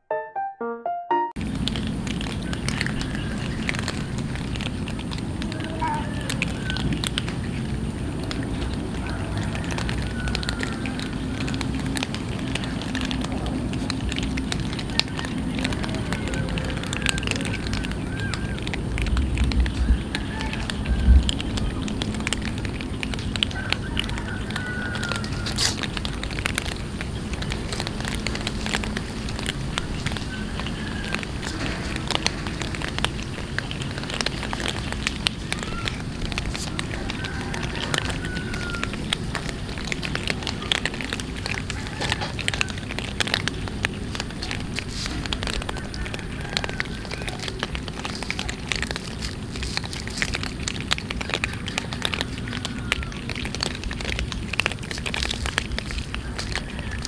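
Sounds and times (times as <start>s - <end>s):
cats crunching dry kibble: 1.4s - 57.0s.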